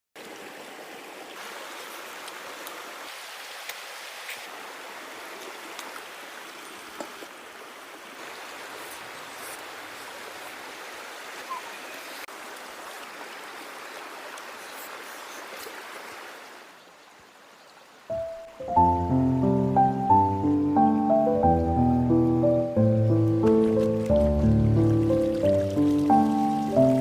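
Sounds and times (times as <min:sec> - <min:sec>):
stream babbling: 0:00.2 - 0:27.0.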